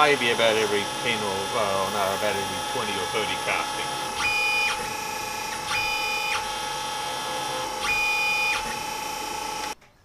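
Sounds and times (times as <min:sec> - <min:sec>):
milling machine hum: 0:00.0 - 0:09.8
short whine of axis drives: 0:00.0 - 0:09.8.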